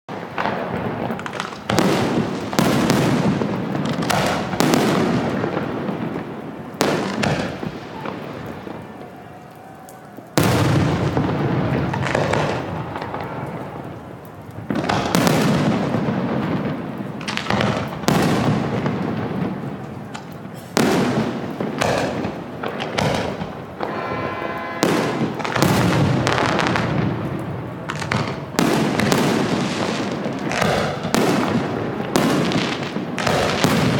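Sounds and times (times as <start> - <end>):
distant fireworks booming: 0.1 - 33.9.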